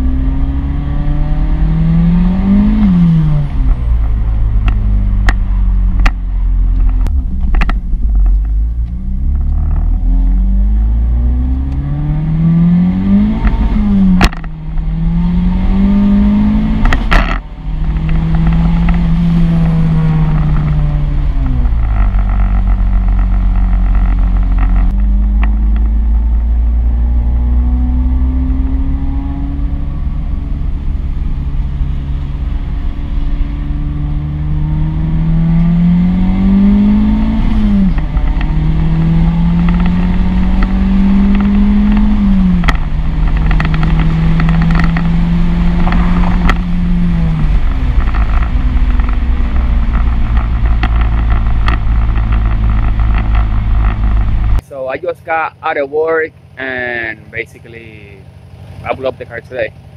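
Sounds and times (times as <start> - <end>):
car engine accelerating and shifting: 0.0 - 59.9
deep road rumble: 0.0 - 59.9.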